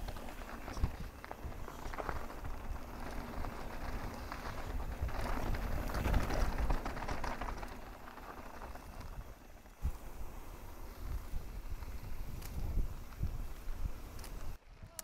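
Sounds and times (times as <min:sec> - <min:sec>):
tyres crunching over gravel: 0:00.0 - 0:14.5
bike rattling and clicking: 0:00.0 - 0:15.0
wind rumble on microphone: 0:00.0 - 0:15.0.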